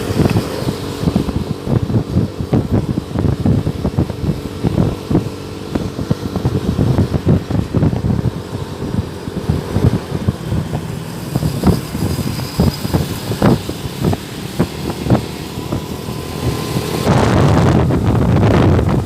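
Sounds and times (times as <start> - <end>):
vehicle rumbling: 0.0 - 19.0
wind buffeting microphone: 0.0 - 19.0.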